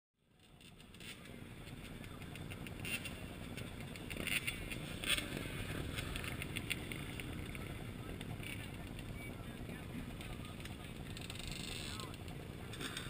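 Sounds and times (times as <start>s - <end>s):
dirt bike engines rumbling: 0.2s - 13.0s.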